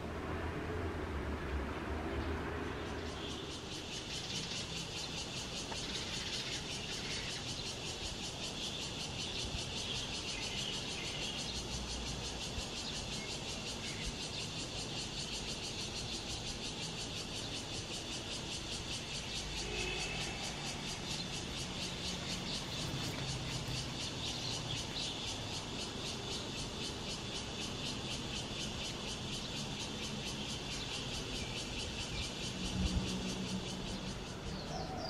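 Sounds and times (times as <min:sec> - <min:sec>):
high-pitched insect chorus: 0:02.0 - 0:35.0.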